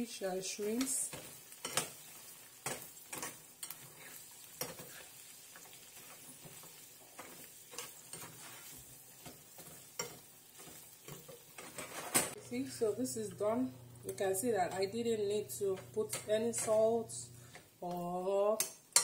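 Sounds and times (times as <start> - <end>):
vegetables sizzling in a frying pan: 0.0 - 19.0
metal turner scraping a pan: 0.5 - 15.0, 15.6 - 17.7.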